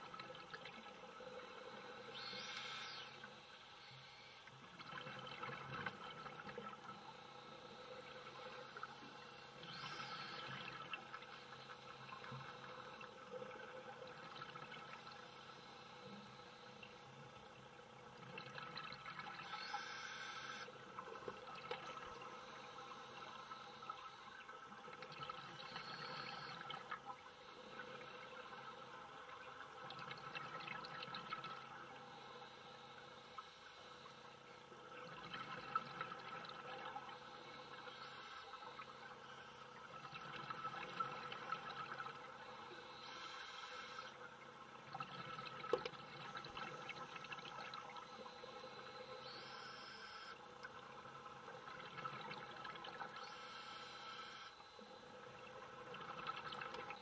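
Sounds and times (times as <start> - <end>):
faint crackle: 0.0 - 57.0.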